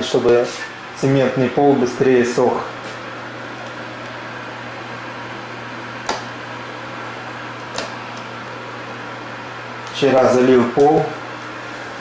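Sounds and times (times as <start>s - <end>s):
space heater whirring: 0.0s - 12.0s.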